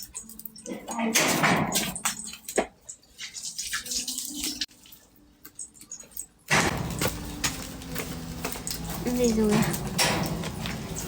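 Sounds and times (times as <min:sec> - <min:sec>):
food crackling over wood fire: 0:00.0 - 0:11.0.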